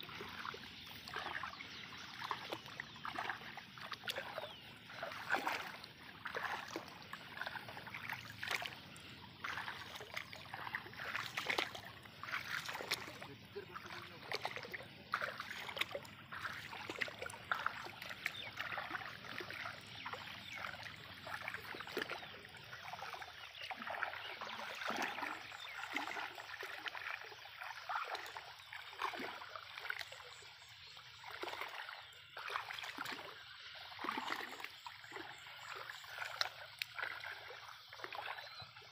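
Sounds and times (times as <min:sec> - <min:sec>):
shallow water sloshing: 0:00.0 - 0:38.9.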